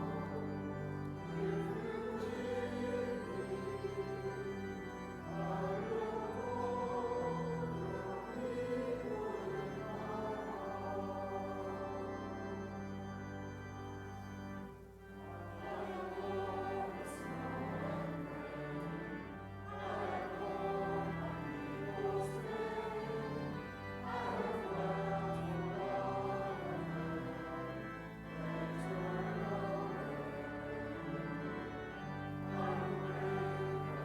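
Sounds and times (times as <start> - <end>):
choir singing: 0.0 - 34.0
held low accompanying notes: 0.0 - 34.0.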